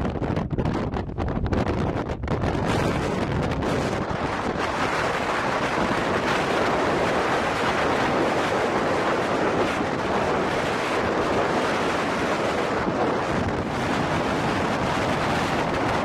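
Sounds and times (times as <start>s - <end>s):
blizzard wind blowing: 0.0s - 16.0s
wind rumbling on microphone: 0.0s - 16.0s.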